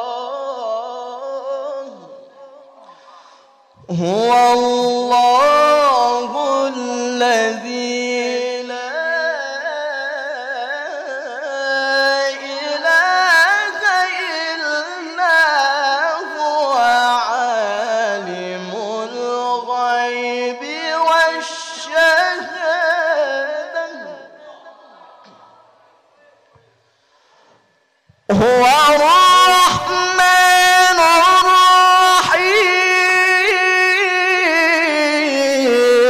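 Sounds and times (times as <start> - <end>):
man reciting melismatic chant: 0.0 - 25.0, 28.2 - 36.0.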